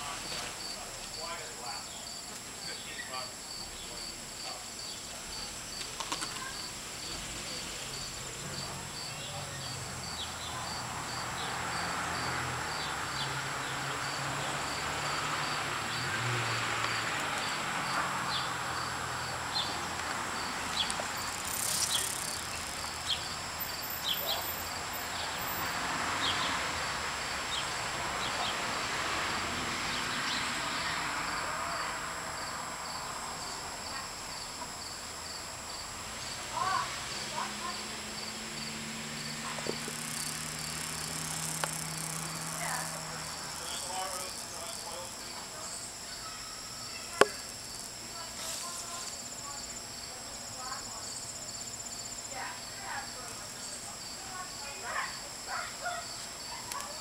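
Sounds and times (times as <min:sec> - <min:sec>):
insects chirping: 0:00.0 - 0:57.0
soft outdoor hiss: 0:00.0 - 0:57.0.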